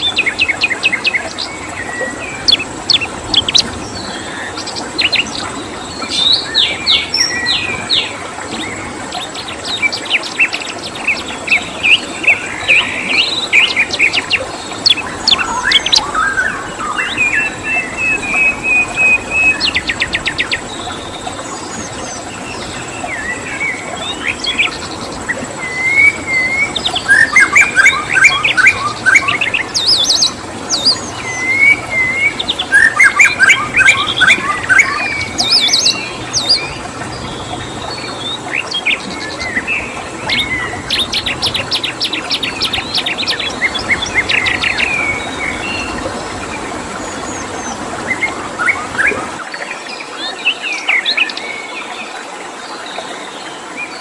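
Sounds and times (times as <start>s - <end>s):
songbirds chirping and singing: 0.0s - 52.2s.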